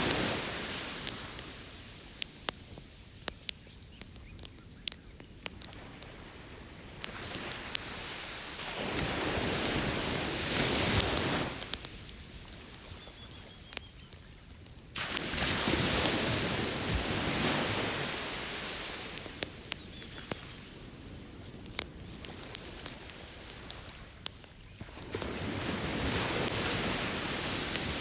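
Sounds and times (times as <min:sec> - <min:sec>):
campfire crackling: 0:00.0 - 0:28.0
ocean waves breaking on a beach: 0:00.0 - 0:28.0.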